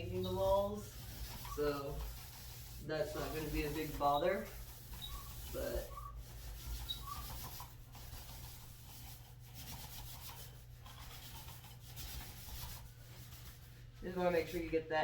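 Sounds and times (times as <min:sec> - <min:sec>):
paint roller rubbing strokes: 0:00.0 - 0:14.9.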